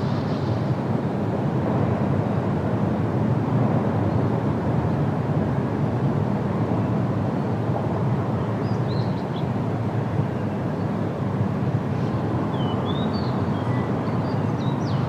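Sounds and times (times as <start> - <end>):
wind rushing through foliage: 0.0 - 15.0.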